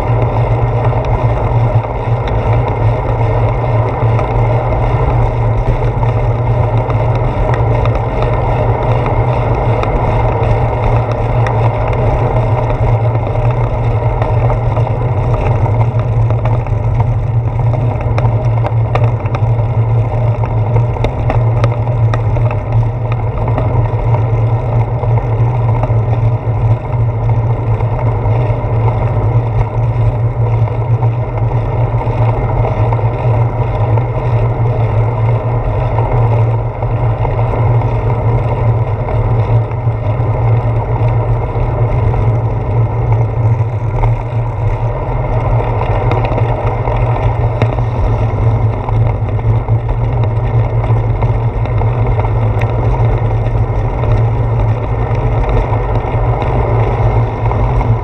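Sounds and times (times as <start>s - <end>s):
wind rush and road rumble: 0.0s - 58.0s.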